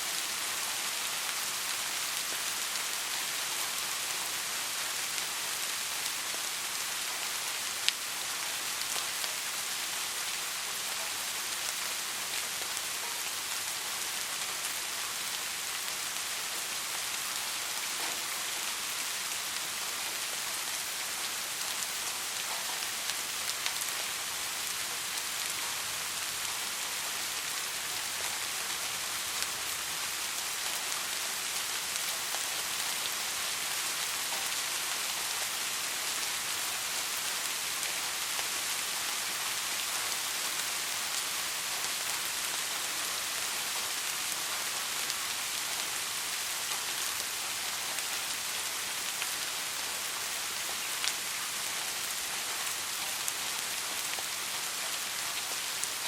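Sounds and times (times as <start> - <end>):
soft rain hissing: 0.0 - 56.0.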